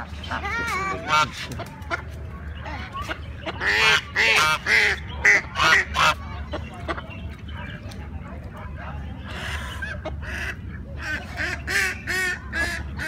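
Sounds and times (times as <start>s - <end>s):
geese honking: 0.1s - 7.2s, 9.2s - 13.0s.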